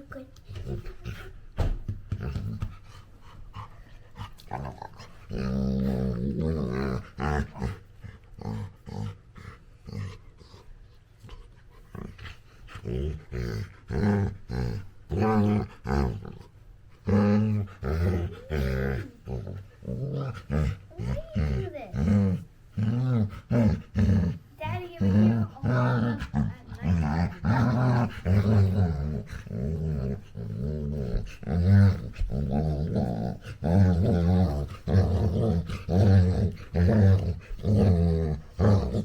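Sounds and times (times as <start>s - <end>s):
puppy growling: 2.1s - 10.7s, 11.3s - 39.0s.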